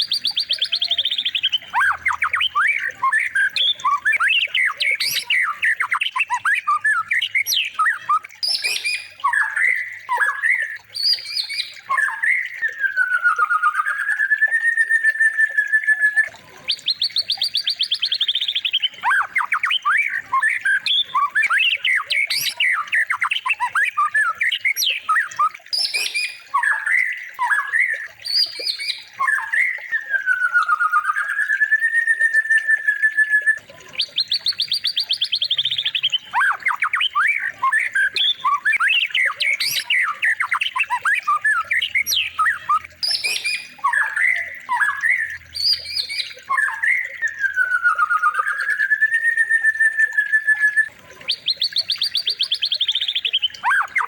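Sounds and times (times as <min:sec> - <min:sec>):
whistled bird note: 0:00.0 - 0:16.4, 0:23.7 - 0:33.6, 0:35.6 - 0:54.0
bird trill: 0:00.0 - 0:54.0
songbird chirps and squawks: 0:00.0 - 0:54.0.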